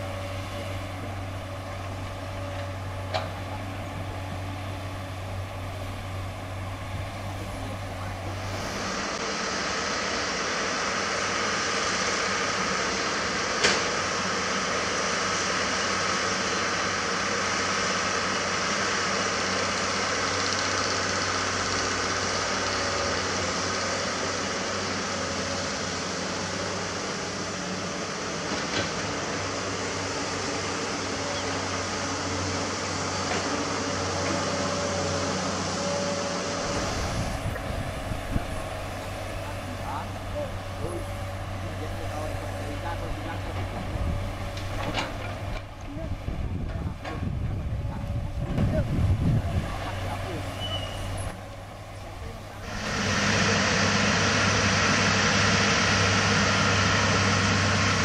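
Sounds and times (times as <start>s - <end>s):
dump truck diesel engine: 0.0s - 58.0s.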